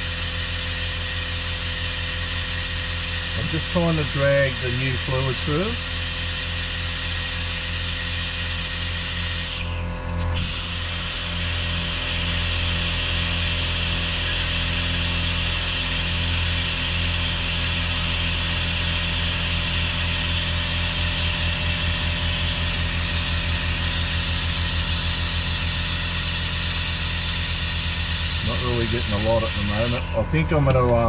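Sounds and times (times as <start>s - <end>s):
compressed air hissing: 0.1s - 30.2s.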